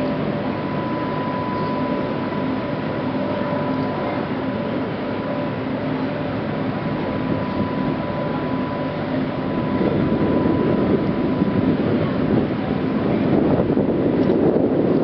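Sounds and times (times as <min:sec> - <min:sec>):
ship lift machinery droning: 0:00.0 - 0:15.0
thin steady whine: 0:00.0 - 0:15.0.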